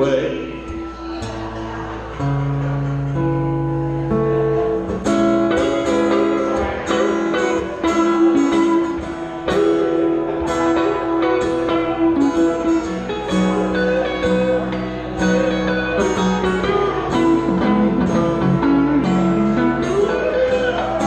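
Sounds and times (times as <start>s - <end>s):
strummed guitars: 0.0s - 21.0s.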